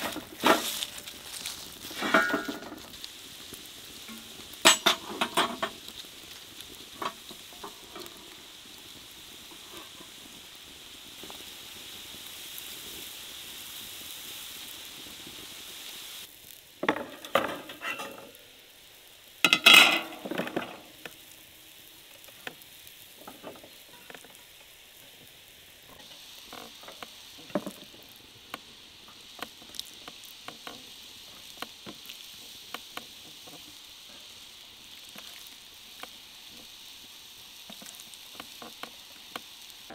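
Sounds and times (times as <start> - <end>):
steel pan sizzling: 0.0 - 39.9.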